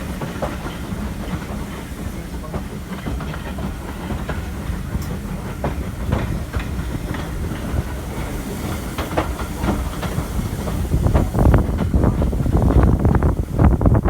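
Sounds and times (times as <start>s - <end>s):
train rumbling: 0.0s - 14.0s
wheels clicking on rails: 0.0s - 14.0s.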